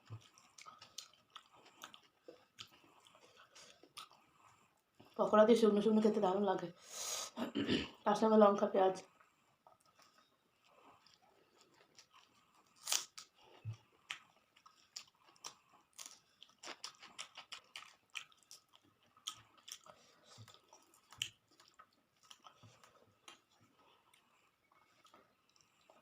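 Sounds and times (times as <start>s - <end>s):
person chewing and crunching food: 0.0s - 5.2s, 9.1s - 26.0s.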